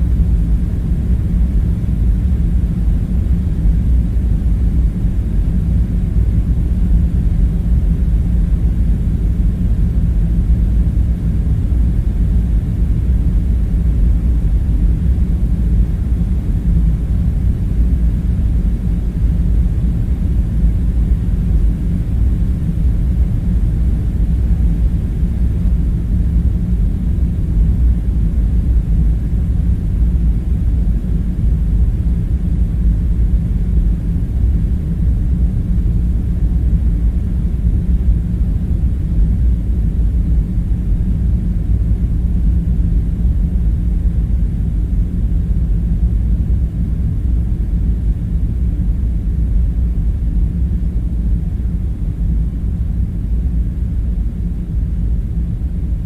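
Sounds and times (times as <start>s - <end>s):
low rumbling drone: 0.0s - 56.0s.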